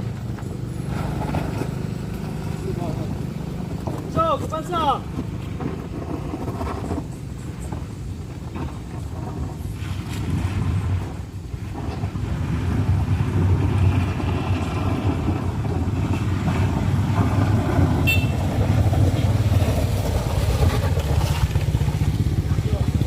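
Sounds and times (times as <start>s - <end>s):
vehicle engine droning under load: 0.0s - 23.0s.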